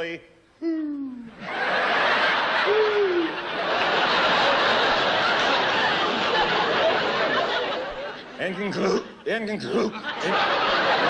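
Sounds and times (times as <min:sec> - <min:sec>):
studio audience laughing: 0:01.3 - 0:11.0.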